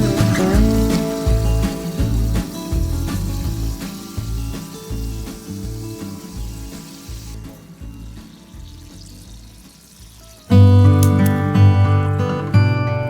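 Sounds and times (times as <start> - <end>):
food sizzling in frying pan: 0.0 - 11.4
background music: 0.0 - 13.0.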